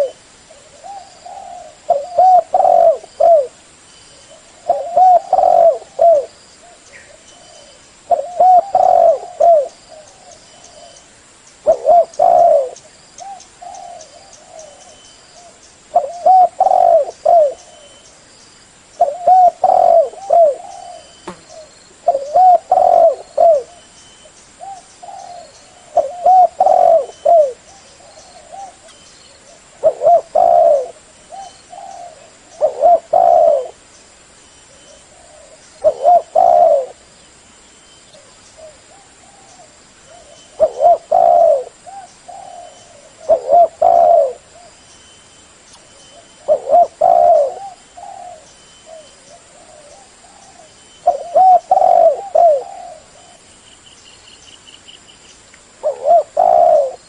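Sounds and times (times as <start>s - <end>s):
dove cooing: 0.0s - 3.6s, 4.3s - 11.0s, 11.6s - 18.0s, 19.0s - 23.9s, 24.6s - 33.8s, 34.7s - 37.0s, 38.2s - 44.8s, 46.1s - 53.4s, 55.8s - 57.0s.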